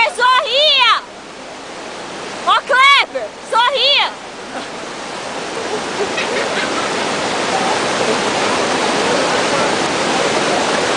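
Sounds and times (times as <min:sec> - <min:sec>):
waterfall roaring: 0:00.0 - 0:10.9.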